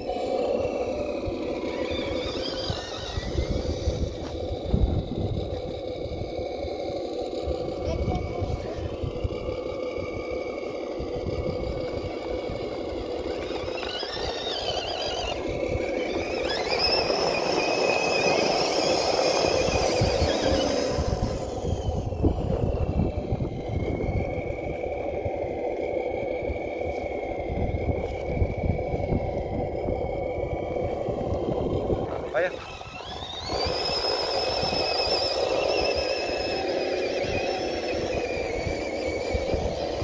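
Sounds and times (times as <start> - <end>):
electric motor whining: 0.0 - 40.0
low rumbling noise: 0.0 - 40.0.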